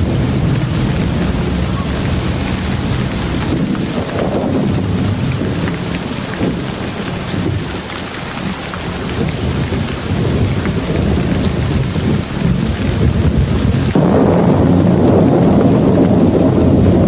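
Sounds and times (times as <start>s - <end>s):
distant thunder rumble: 0.0s - 17.0s
steady rain: 0.0s - 17.0s.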